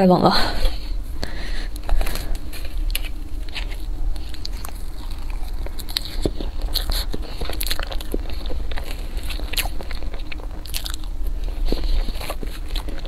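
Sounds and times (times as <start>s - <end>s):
biting and chewing: 0.7s - 13.0s.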